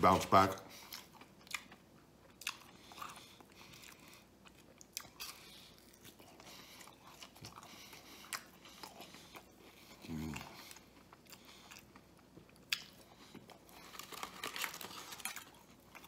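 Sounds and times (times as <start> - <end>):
faint chewing: 0.6 - 16.0.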